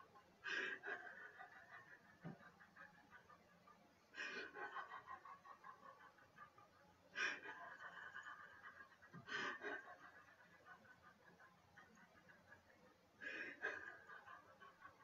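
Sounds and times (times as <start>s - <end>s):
woman's breathy silent laughter: 0.0s - 15.0s.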